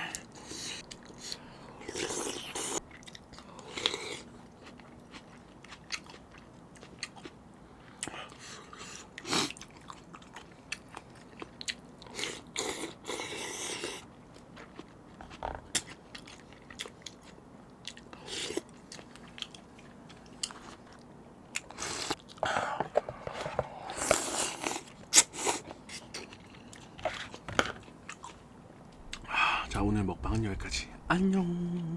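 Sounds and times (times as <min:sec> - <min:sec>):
person chewing food: 0:00.0 - 0:29.3.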